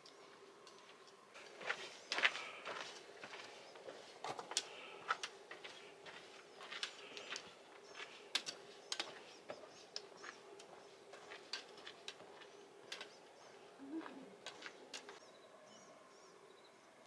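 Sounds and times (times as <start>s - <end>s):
footsteps on rocky dirt trail: 0.7s - 15.2s.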